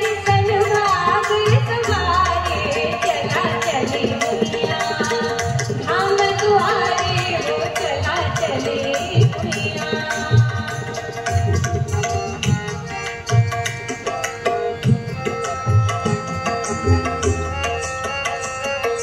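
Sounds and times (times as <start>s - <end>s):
tabla playing: 0.0s - 19.0s.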